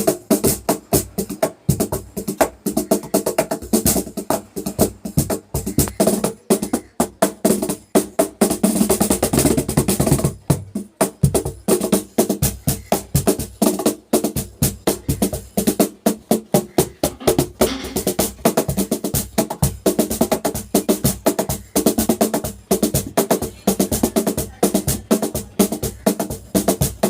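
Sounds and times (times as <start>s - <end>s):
cajon played by hand: 0.0s - 27.0s.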